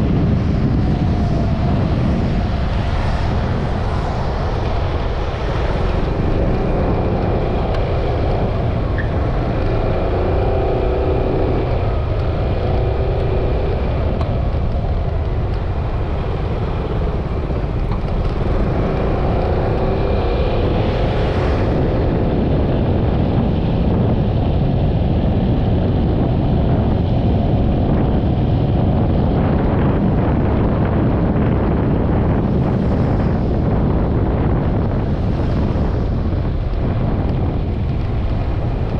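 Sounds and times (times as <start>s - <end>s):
road noise: 0.0s - 38.9s
wind rushing over microphone: 0.0s - 38.9s.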